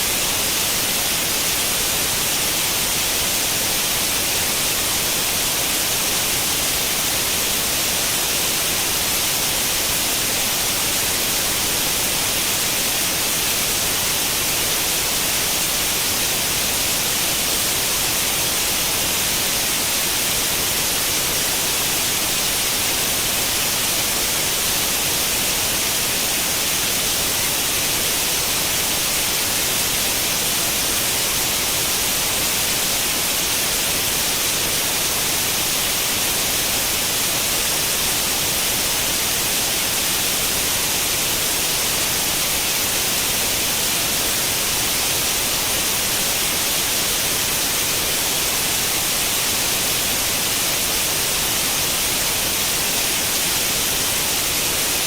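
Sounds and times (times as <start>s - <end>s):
television static hiss: 0.0s - 55.0s.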